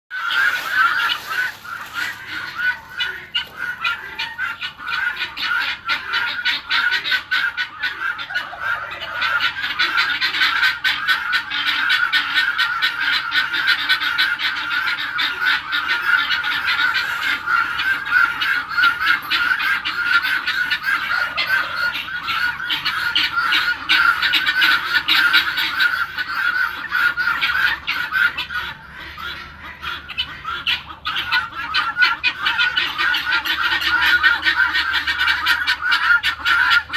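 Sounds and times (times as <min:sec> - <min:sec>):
guinea fowl chattering: 0:00.1 - 0:36.9.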